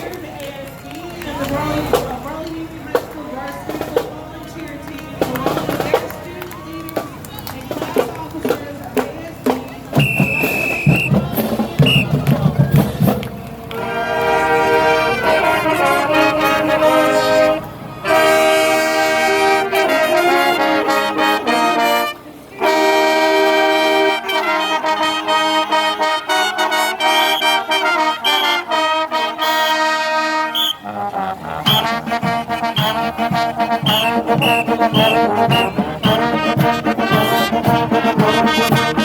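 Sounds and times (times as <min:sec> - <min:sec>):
marching band brass chords: 0:01.4 - 0:39.0.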